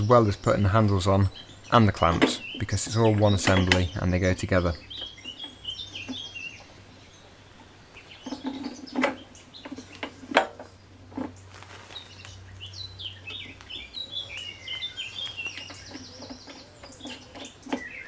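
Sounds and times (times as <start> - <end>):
birds singing: 0.0 - 18.0.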